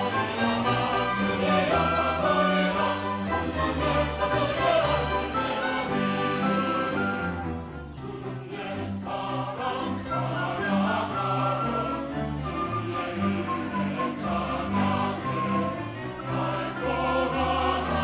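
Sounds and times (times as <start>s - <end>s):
choir singing in harmony: 0.0s - 18.0s
string orchestra: 0.0s - 18.0s.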